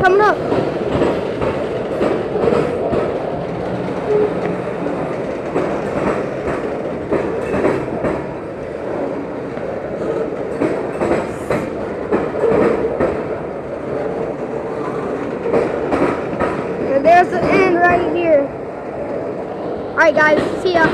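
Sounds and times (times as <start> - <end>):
wheels clicking over rail joints: 0.0 - 18.2
freight train cars rolling: 0.0 - 20.9
train cars rattling and knocking: 0.0 - 20.9.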